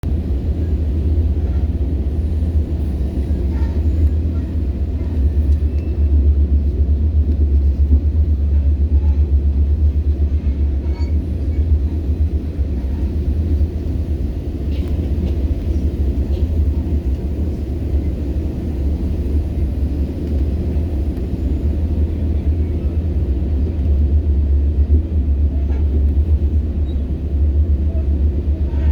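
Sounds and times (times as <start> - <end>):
train running low rumble: 0.0 - 28.9.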